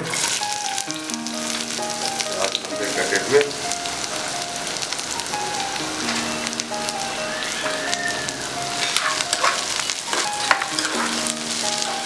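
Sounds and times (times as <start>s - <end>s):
background music: 0.0s - 12.0s
onions sizzling in pan: 0.0s - 12.0s.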